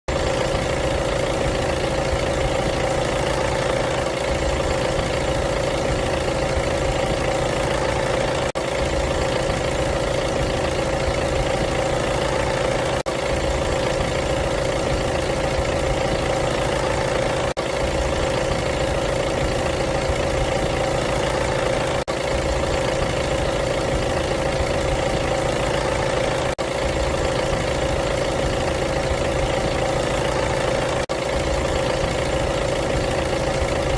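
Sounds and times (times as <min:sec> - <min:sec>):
diesel car engine idling: 0:00.1 - 0:33.9.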